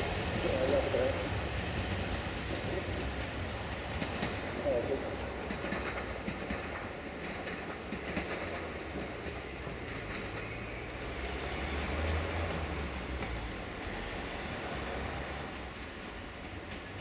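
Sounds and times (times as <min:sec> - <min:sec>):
railcar engine rumble: 0:00.0 - 0:17.0.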